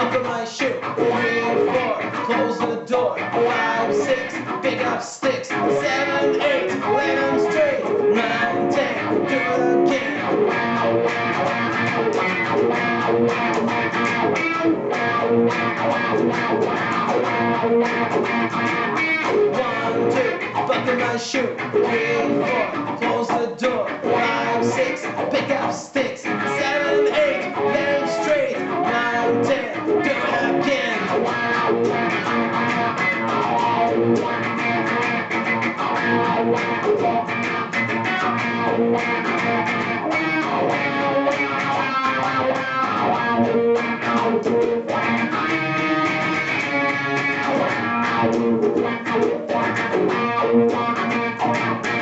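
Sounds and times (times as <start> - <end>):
instrumental funk guitar music: 0.0 - 52.0.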